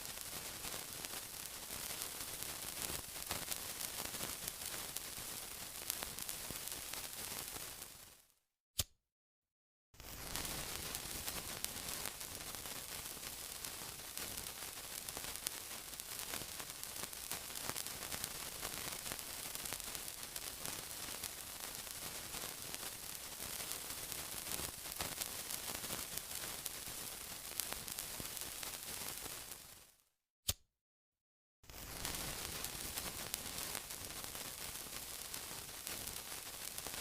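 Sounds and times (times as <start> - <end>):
crackling sizzle: 0.0 - 8.3, 10.0 - 30.0, 31.6 - 37.0.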